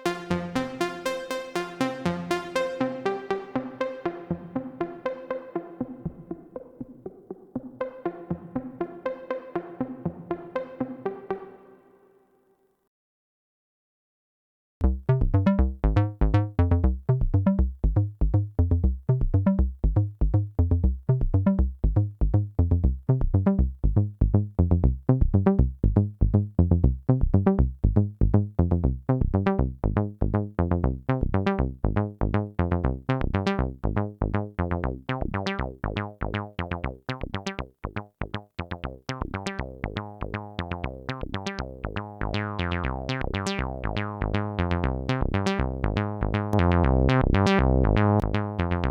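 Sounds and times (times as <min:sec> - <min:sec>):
synthesizer playing plucked notes: 0:00.0 - 0:12.0, 0:14.8 - 0:23.6, 0:29.2 - 0:48.9.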